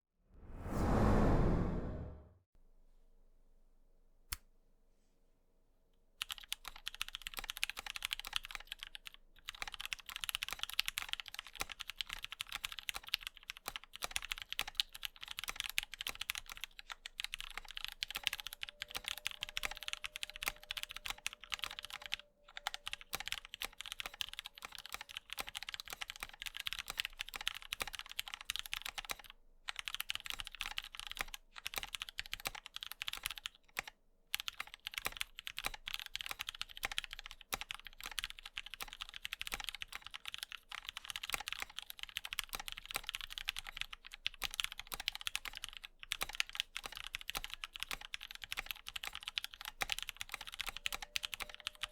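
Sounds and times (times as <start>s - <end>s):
mechanical keyboard typing: 6.2s - 51.9s.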